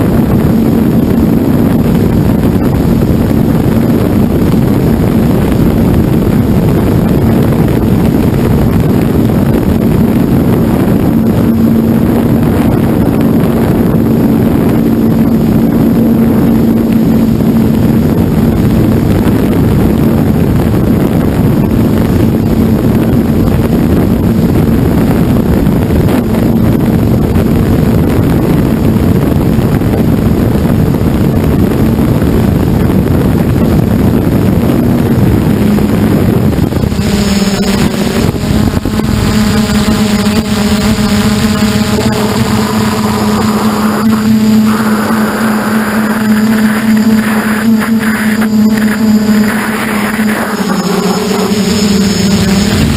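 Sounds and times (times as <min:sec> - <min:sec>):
drone propeller hum: 0:00.0 - 0:52.9
rushing air noise: 0:00.0 - 0:52.9.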